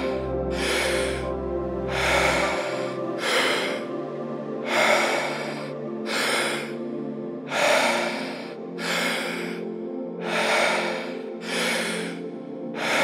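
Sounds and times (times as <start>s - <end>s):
ambient music drone: 0.0s - 13.0s
deep guided breathing: 0.0s - 13.0s.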